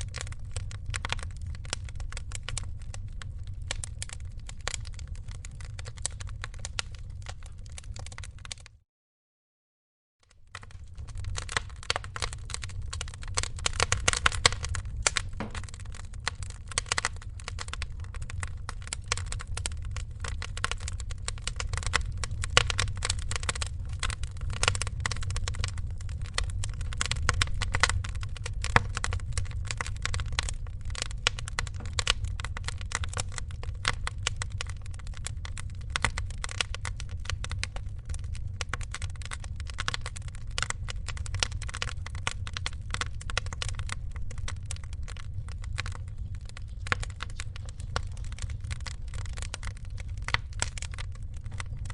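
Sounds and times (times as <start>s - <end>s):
low rumble of flames: 0.0s - 8.8s, 10.3s - 51.9s
wood fire crackling and popping: 0.0s - 8.8s, 10.3s - 51.9s.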